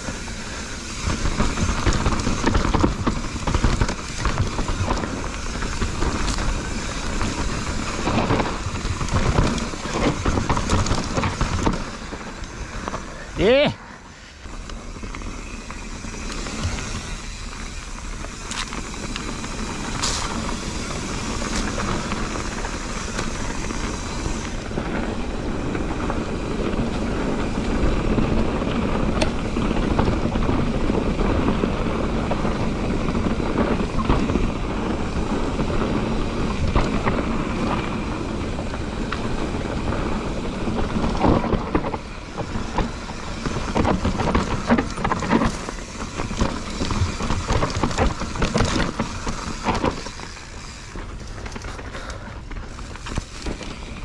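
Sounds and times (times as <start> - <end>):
wind buffeting microphone: 0.0 - 13.7, 14.4 - 54.0
bike rattling: 0.0 - 54.0
bike tyre rumble: 0.0 - 54.0.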